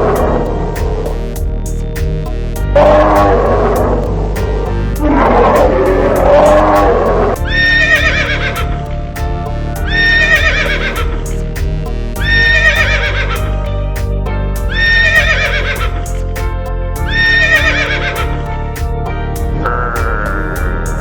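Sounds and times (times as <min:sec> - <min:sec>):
music with steady beat: 0:00.0 - 0:21.0.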